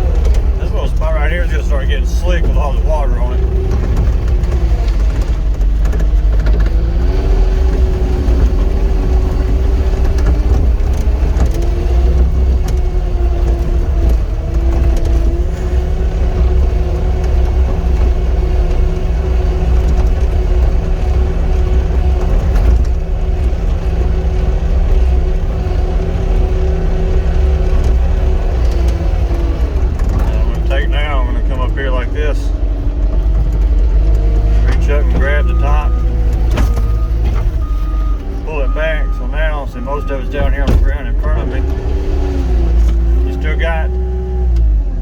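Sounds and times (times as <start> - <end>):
continuous whine: 0.0 - 45.0
diesel engine running: 0.0 - 45.0.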